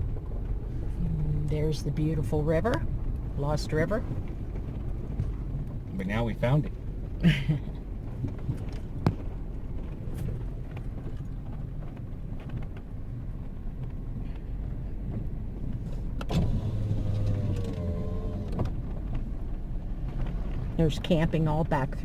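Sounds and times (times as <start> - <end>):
vehicle low rumble: 0.0 - 22.0.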